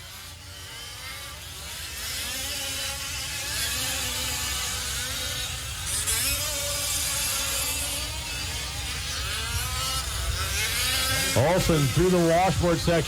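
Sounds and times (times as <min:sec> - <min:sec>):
rc trucks engines buzzing and revving: 0:00.0 - 0:13.0.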